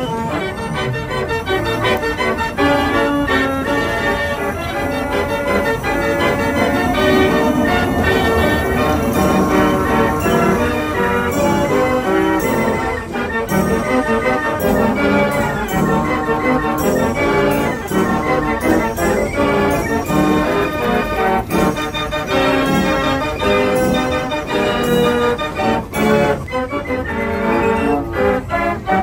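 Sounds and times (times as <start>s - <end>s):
organ music with brass and bells: 0.0s - 29.0s.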